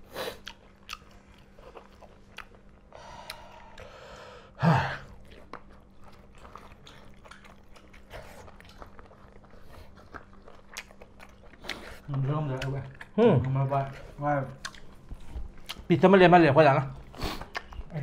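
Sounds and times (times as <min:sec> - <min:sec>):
people chewing and smacking: 0:00.0 - 0:18.0.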